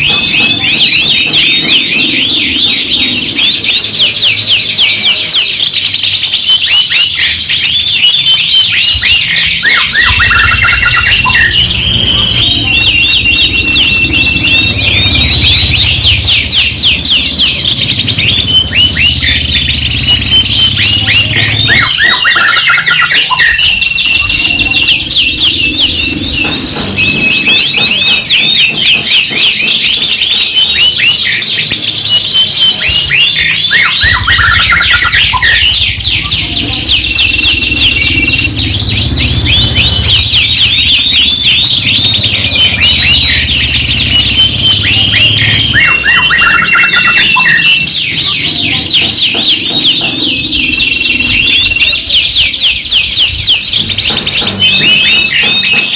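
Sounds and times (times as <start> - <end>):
canaries singing trills: 0.0 - 55.9.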